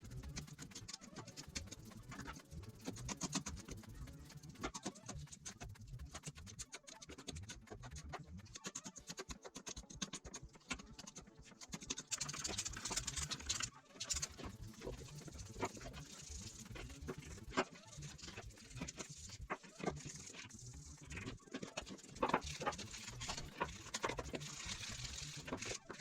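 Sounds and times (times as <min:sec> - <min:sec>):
scratching and small clicks: 0:00.0 - 0:26.0.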